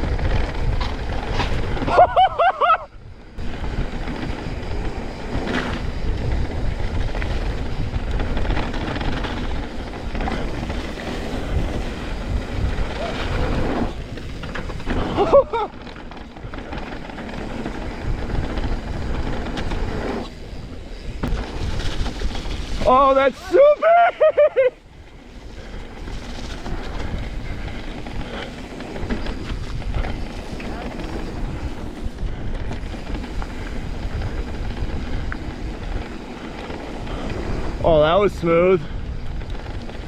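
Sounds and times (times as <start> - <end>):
bike tyres rumbling on dirt: 0.0 - 40.0
wind on microphone: 0.0 - 40.0.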